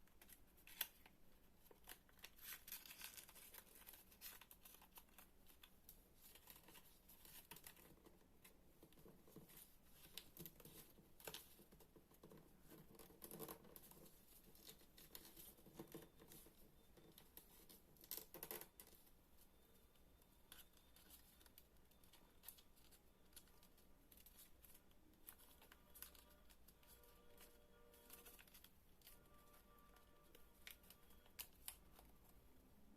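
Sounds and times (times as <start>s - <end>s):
paper being folded and creased: 0.1s - 19.1s, 20.5s - 32.4s.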